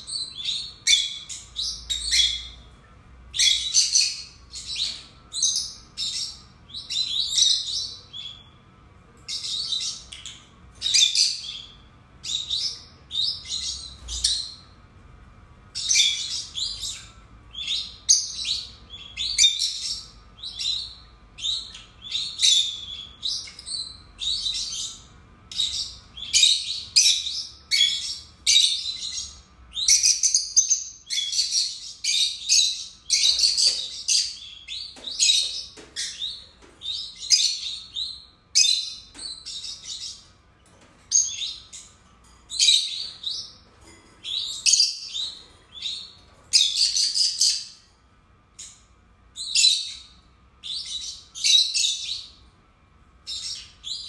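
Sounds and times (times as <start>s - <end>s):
lovebirds chirping and squeaking: 0.0s - 14.8s, 15.7s - 47.9s, 48.6s - 52.5s, 53.2s - 54.0s.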